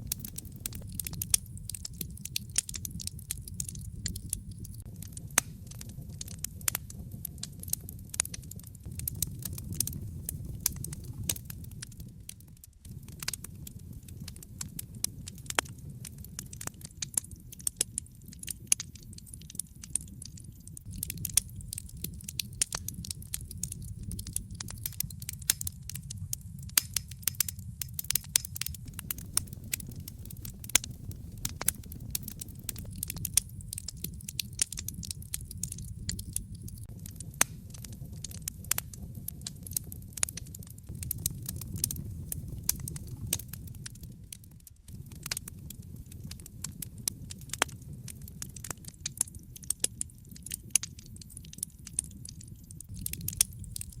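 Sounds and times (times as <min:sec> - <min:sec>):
low rumble of flame: 0:00.0 - 0:54.0
wood fire crackling and popping: 0:00.0 - 0:54.0.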